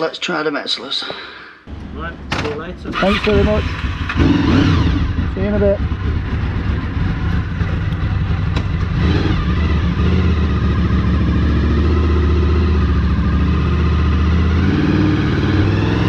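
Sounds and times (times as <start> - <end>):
motorcycle engine revving: 1.7 - 16.0.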